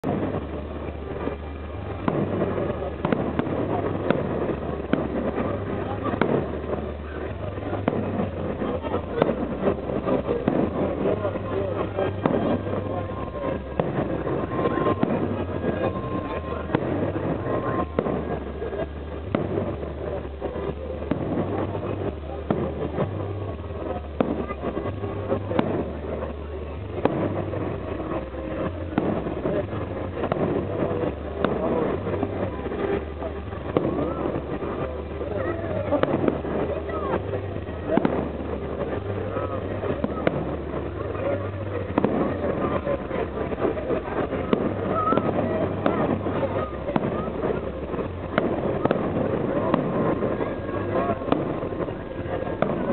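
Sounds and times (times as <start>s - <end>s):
fireworks bangs: 0.0s - 52.9s
voices: 0.0s - 52.9s.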